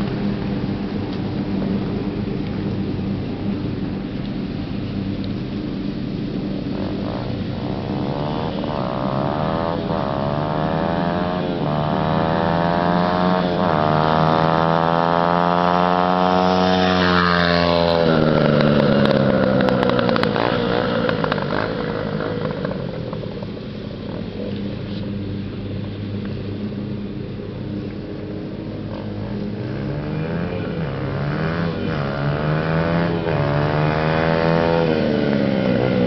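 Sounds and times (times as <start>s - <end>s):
dirt bike engine accelerating: 0.0s - 36.0s.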